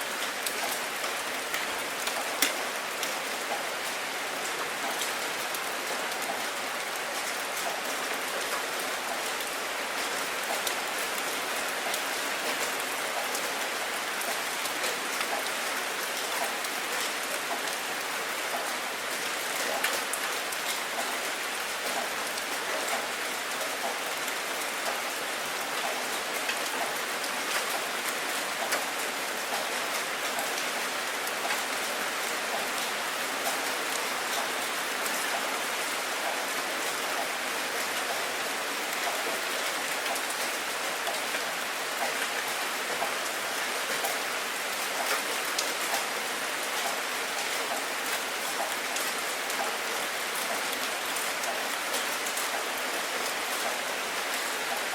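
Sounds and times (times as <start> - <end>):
rain falling: 0.0 - 54.9
raindrops pattering on a surface: 0.0 - 54.9.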